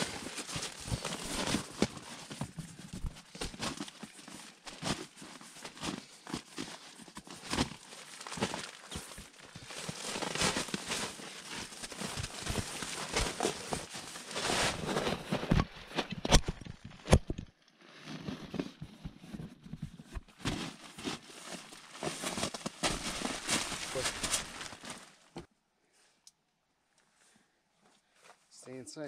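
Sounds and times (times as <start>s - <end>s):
fabric and plastic crinkling: 0.0s - 25.5s.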